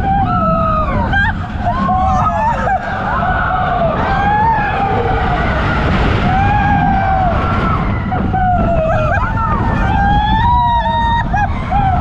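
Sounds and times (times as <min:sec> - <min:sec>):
coaster train rumbling on track: 0:00.0 - 0:12.0
riders screaming: 0:00.0 - 0:12.0.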